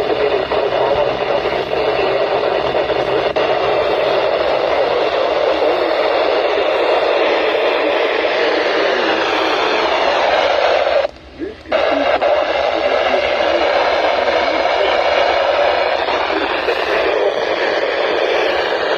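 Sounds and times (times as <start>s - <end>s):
radio static hiss: 0.0s - 18.9s.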